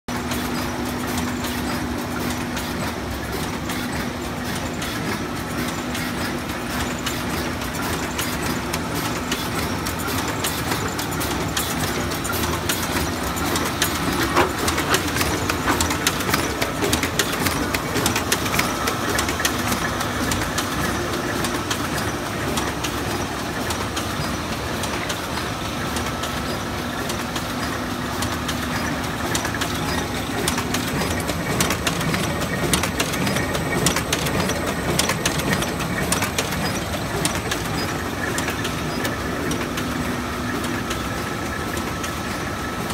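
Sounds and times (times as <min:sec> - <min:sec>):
sewing machine clattering: 0:00.1 - 0:40.2.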